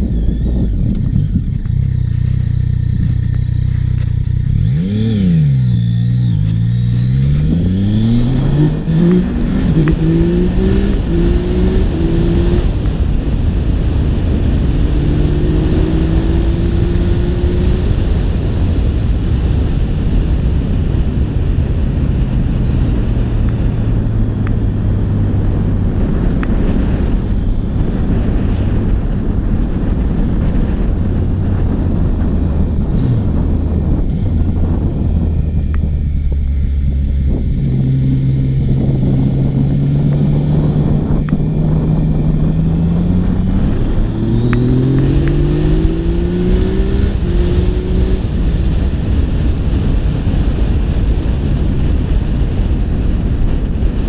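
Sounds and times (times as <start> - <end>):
motorcycle engine revving: 0.0 - 54.0
wind noise on microphone: 0.0 - 54.0.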